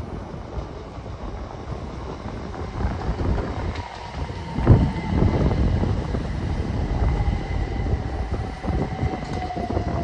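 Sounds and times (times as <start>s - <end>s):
train rumble: 0.0s - 10.0s
wind buffeting microphone: 0.0s - 10.0s.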